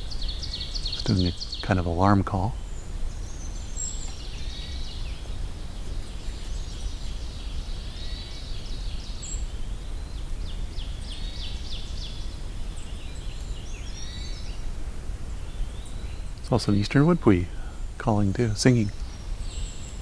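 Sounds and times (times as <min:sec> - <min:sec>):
distant nasal bird alarm call: 0:00.0 - 0:20.0
low background rumble: 0:00.0 - 0:20.0.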